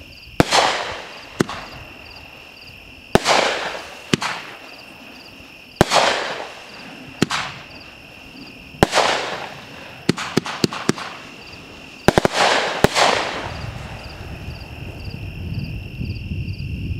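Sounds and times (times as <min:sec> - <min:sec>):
fireworks bangs: 0:00.0 - 0:15.5
fireworks crackling hiss: 0:00.0 - 0:15.8.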